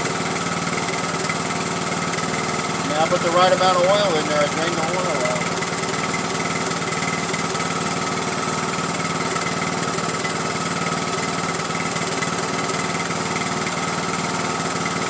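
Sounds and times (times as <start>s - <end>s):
lawn tractor engine running: 0.0s - 15.0s.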